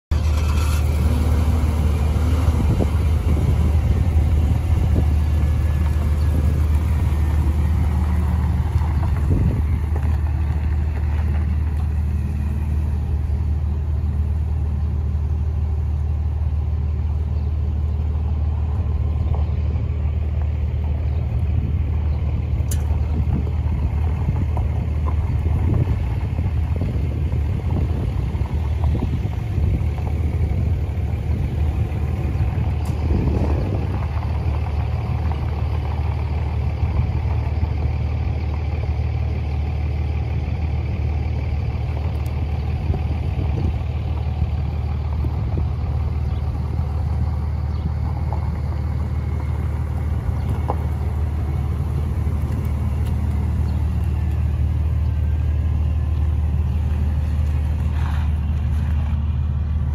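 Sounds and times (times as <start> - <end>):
pickup truck engine rumble: 0.0 - 59.9.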